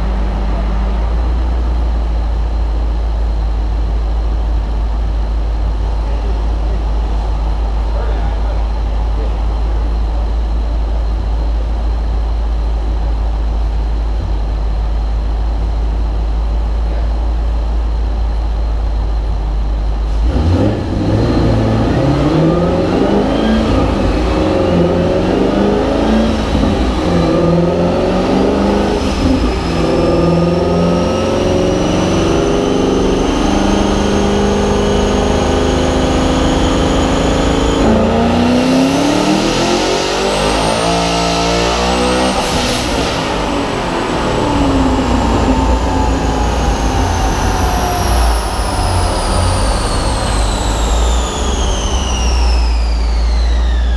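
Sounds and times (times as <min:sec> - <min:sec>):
engine droning on a dyno: 0:00.0 - 0:53.9
turbo whine: 0:00.0 - 0:53.9.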